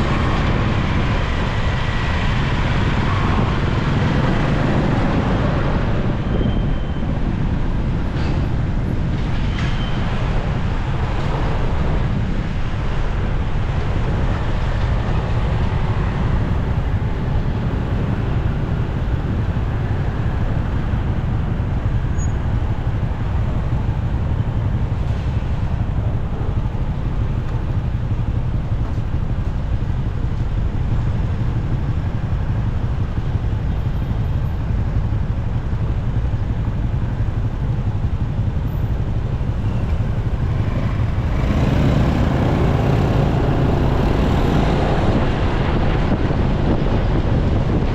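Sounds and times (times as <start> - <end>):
motorcycle engine rumble: 0.0 - 47.9
traffic noise: 0.0 - 47.9.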